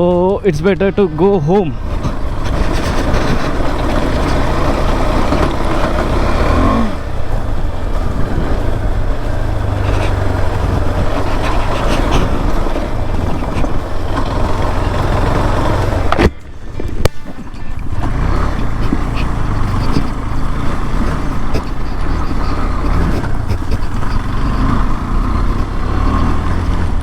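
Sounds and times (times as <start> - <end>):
motorcycle engine running: 0.0 - 27.0
steady rushing noise: 0.0 - 27.0.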